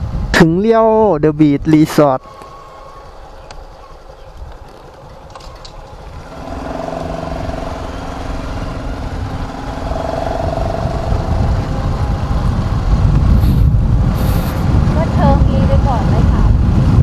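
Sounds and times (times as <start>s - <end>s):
wind rumble on microphone: 0.0s - 17.0s
motorcycle engine humming: 1.2s - 17.0s.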